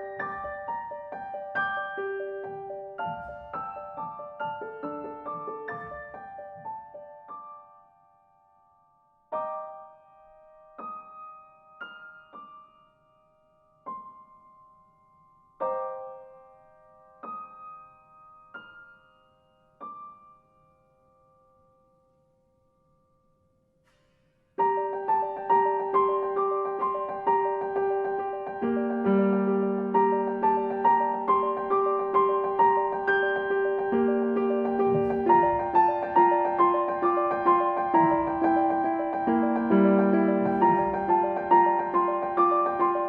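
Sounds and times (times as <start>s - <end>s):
soft solo piano: 0.0s - 22.1s, 24.6s - 43.0s.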